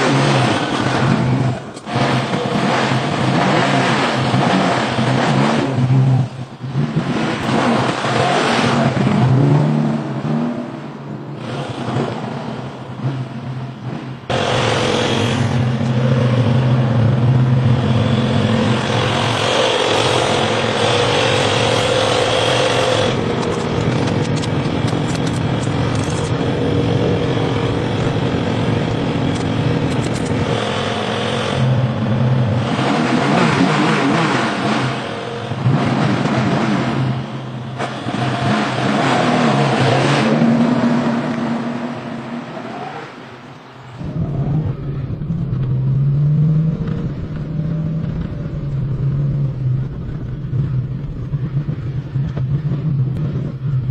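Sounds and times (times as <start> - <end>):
car engine running: 0.0 - 53.9.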